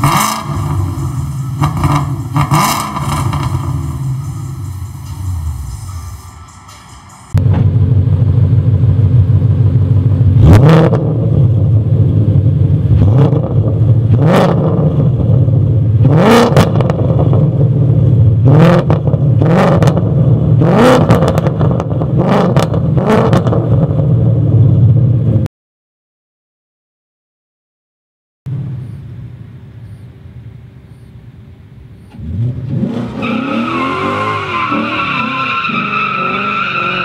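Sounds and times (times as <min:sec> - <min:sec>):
car engine revving: 0:00.0 - 0:25.4, 0:32.0 - 0:37.0.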